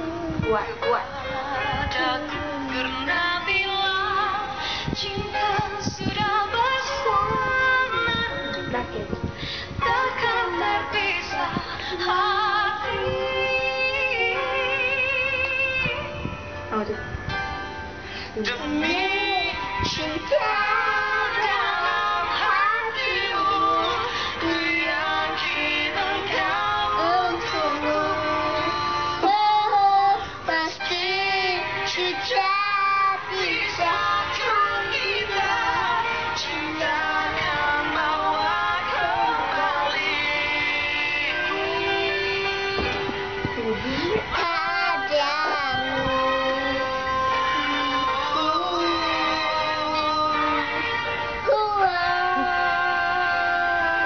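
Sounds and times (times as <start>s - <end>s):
girl singing into microphone: 0.0s - 17.1s, 18.2s - 40.2s, 41.3s - 54.0s
pop ballad: 0.0s - 54.0s.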